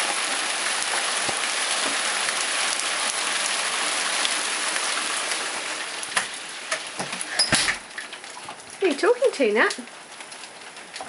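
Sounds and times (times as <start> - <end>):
rain falling on paving: 0.0 - 11.0.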